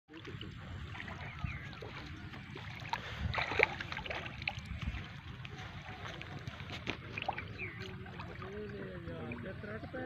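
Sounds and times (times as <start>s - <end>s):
water splash: 0.1s - 9.5s
water sloshing: 0.1s - 10.0s
wind buffeting microphone: 0.4s - 10.0s.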